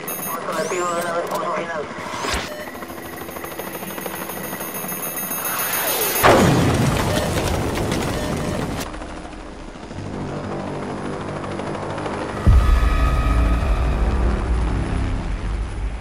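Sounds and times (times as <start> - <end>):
helicopter rotor beating: 0.0 - 13.2.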